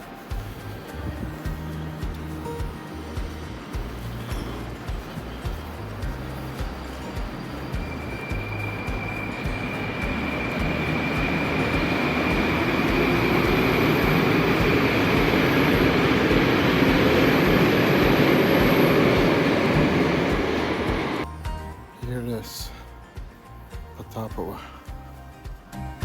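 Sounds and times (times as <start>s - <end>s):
train rumbling on rails: 0.0s - 21.2s
steady high whine: 0.0s - 21.7s.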